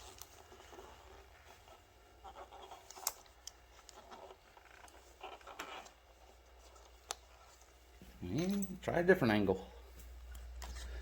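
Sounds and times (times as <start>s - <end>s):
fingers rustling at connector: 0.0s - 8.9s, 9.8s - 11.0s.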